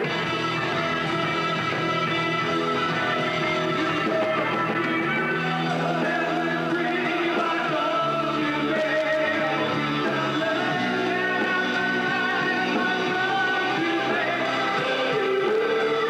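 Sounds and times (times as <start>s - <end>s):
live rock band: 0.0s - 16.0s
person singing: 0.0s - 16.0s.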